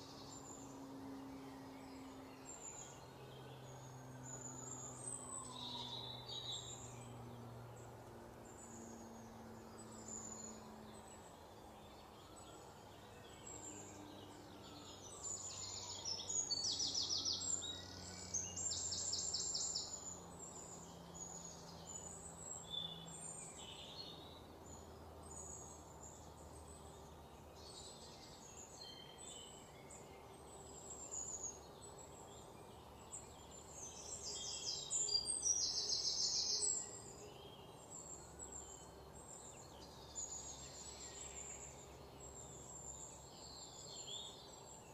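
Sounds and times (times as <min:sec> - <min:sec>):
birds calling and singing: 0:00.0 - 0:44.9
faint low hum: 0:00.0 - 0:44.9.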